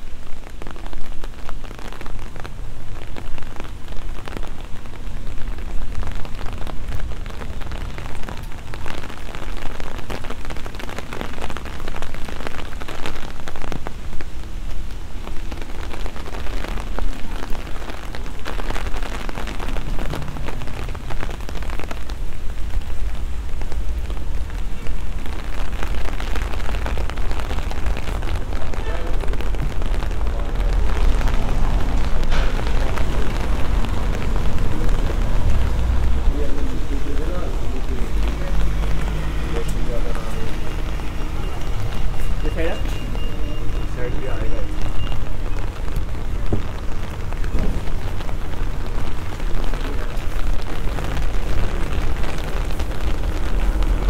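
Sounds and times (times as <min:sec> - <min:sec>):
rain falling on stone: 0:00.0 - 0:54.0.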